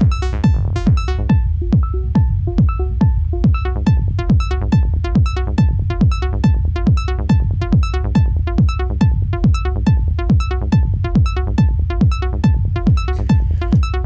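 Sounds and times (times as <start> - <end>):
low rumbling bass: 0.0 - 14.0
techno kick drum: 0.0 - 14.0.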